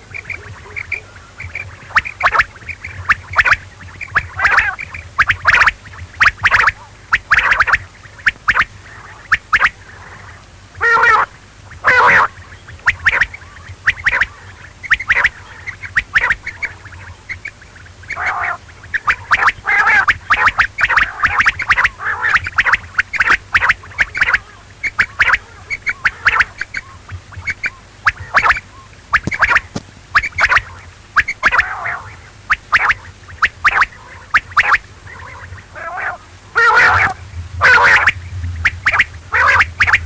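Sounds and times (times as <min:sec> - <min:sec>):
quail calling: 0:00.0 - 0:40.0.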